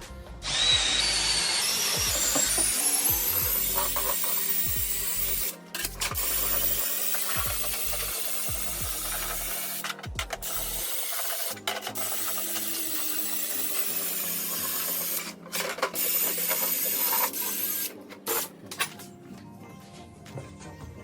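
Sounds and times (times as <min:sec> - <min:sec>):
drill scrubbing metal panel: 0:00.4 - 0:18.5.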